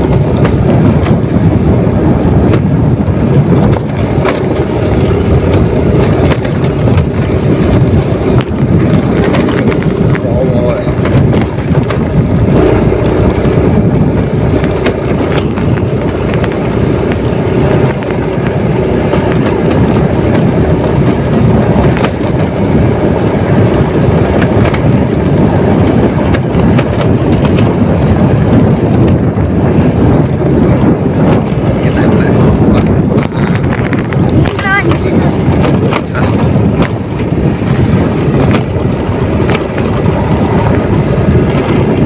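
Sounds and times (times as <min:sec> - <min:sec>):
knocks and rattles: 0:00.0 - 0:12.5, 0:13.4 - 0:42.0
motorcycle engine: 0:00.0 - 0:42.0
wind noise on microphone: 0:00.0 - 0:42.0.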